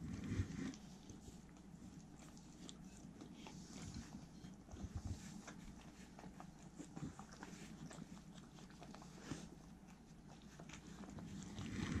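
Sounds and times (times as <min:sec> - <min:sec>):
dogs chewing and licking: 0:00.0 - 0:12.0.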